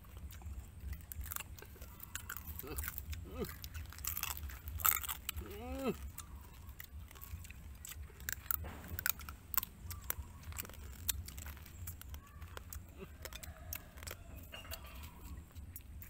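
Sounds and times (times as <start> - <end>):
crab shells cracking: 0.0 - 16.0
crunchy chewing: 0.0 - 16.0.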